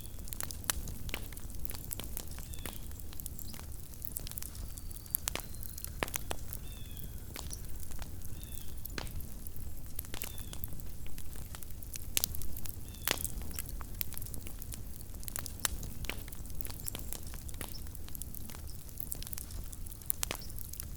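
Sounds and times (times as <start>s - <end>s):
campfire low rumble: 0.0s - 20.9s
campfire popping and crackling: 0.0s - 20.9s.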